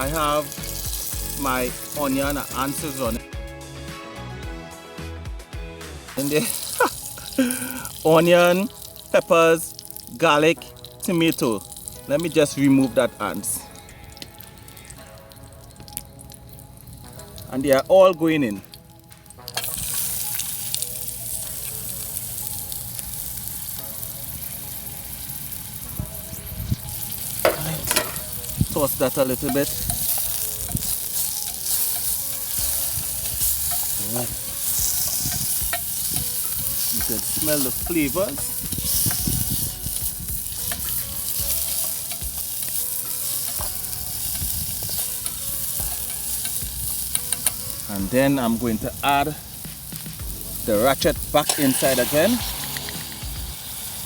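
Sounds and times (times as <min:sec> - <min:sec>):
vegetables sizzling in hot oil: 0:00.0 - 0:03.2, 0:06.2 - 0:54.0.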